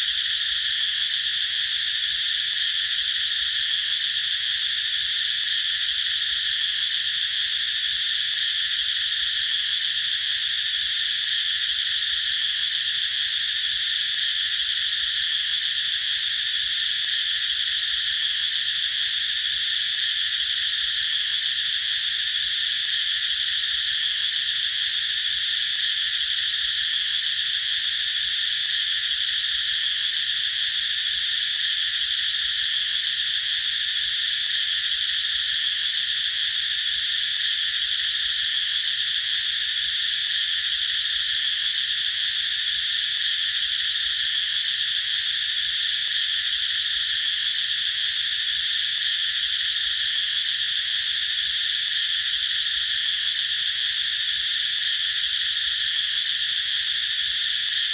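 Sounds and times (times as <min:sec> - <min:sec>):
cicadas buzzing: 0:00.0 - 0:57.9.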